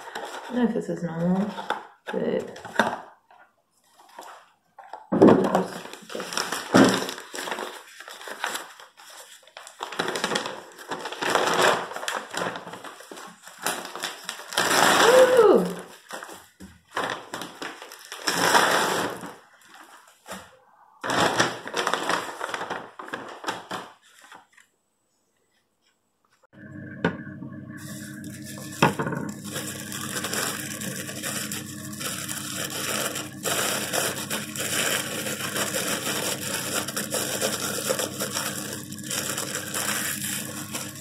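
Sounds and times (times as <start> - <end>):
paper leaflet rustling and crinkling: 0.0 - 3.0, 3.8 - 24.8, 27.9 - 41.0.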